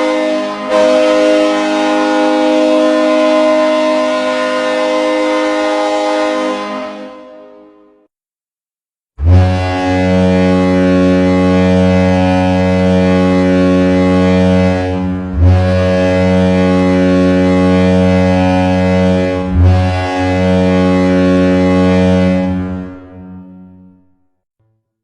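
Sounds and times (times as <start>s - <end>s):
deep air horn blasts: 0.0s - 8.0s, 9.2s - 24.1s.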